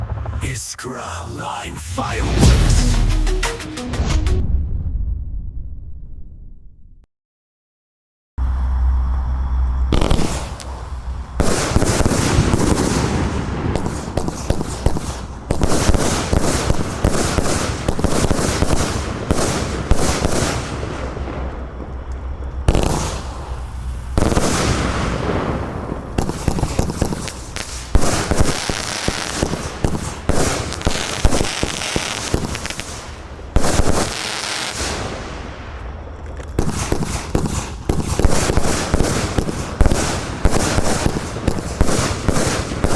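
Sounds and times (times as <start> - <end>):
fireworks launching and bursting: 0.0 - 6.1, 9.9 - 42.9.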